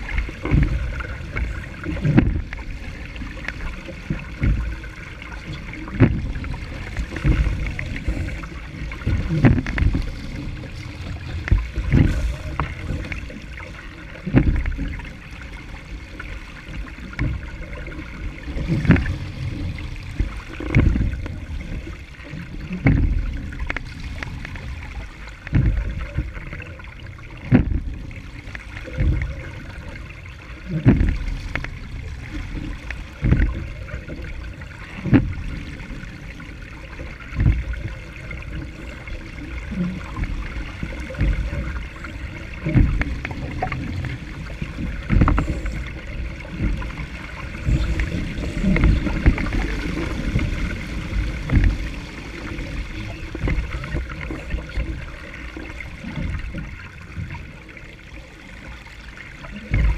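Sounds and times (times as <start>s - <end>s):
boat hull slapping waves: 0.0s - 59.9s
water rushing and splashing: 0.0s - 59.9s.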